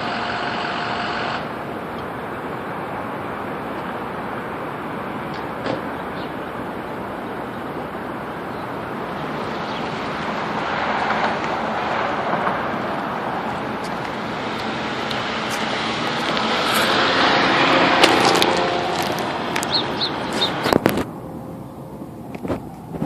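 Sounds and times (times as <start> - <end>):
road traffic rush: 0.0 - 23.0.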